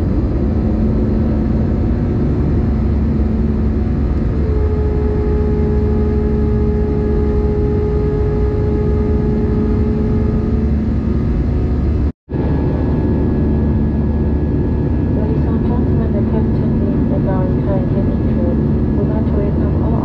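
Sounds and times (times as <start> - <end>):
airplane cabin engine roar: 0.0 - 20.0
steady multi-tone hum: 0.0 - 20.0.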